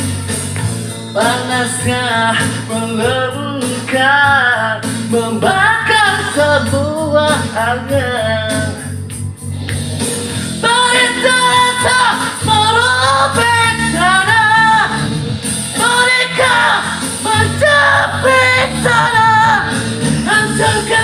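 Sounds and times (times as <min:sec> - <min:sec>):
instrumental backing: 0:00.0 - 0:21.0.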